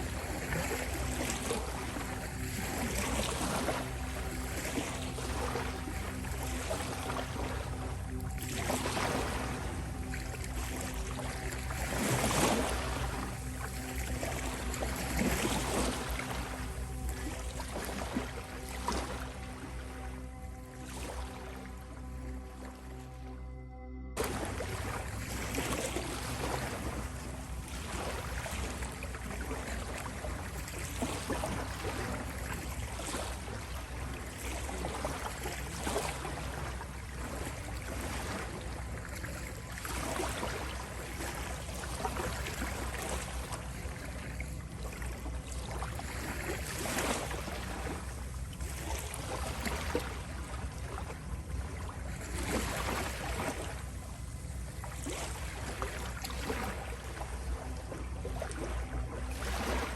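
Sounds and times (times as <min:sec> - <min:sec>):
ocean waves washing in: 0:00.0 - 0:23.3, 0:24.2 - 0:59.9
steady low rumble: 0:00.0 - 0:59.9.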